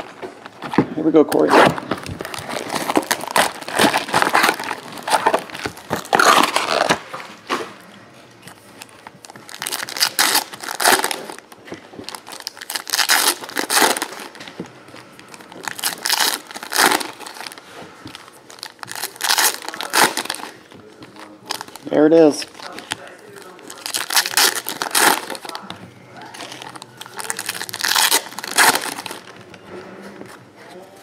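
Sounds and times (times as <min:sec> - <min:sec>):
plastic wrap crinkling: 0:00.0 - 0:07.6, 0:08.2 - 0:29.6
foil packs tearing and crinkling: 0:01.3 - 0:07.2, 0:08.6 - 0:14.6, 0:15.2 - 0:29.3.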